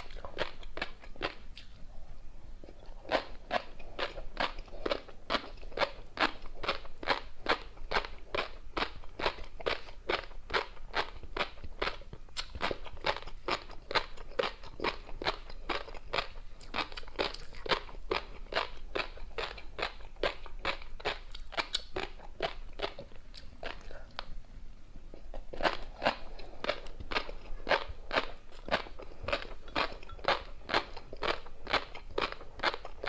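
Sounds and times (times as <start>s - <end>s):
crunchy chewing: 0.0s - 1.8s, 2.6s - 24.4s, 25.1s - 33.0s.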